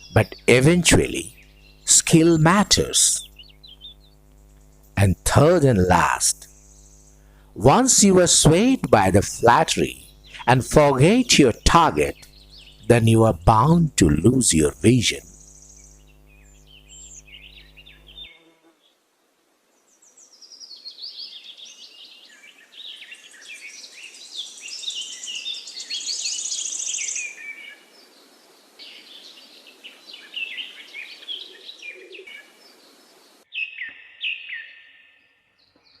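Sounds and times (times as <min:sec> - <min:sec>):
birds chirping and trilling: 0:00.0 - 0:19.0, 0:19.8 - 0:36.0.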